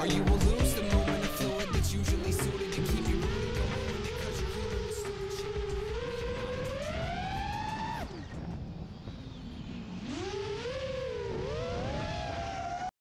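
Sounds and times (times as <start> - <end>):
quadcopter motors whining: 0.0 - 12.9.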